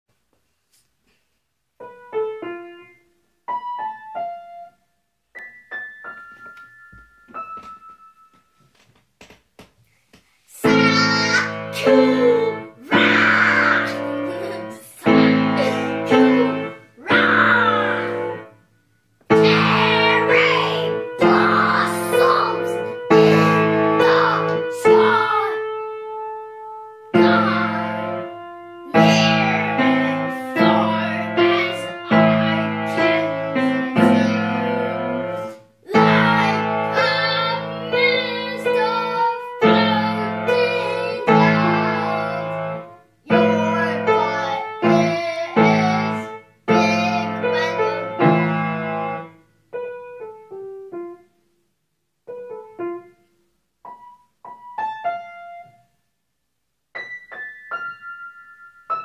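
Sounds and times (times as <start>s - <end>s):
upright piano playing: 1.8s - 8.8s, 10.6s - 51.4s, 52.2s - 56.0s, 56.9s - 59.0s.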